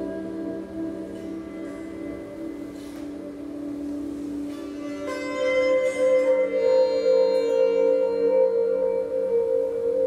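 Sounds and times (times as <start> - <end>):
sitar drone: 0.0 - 10.0.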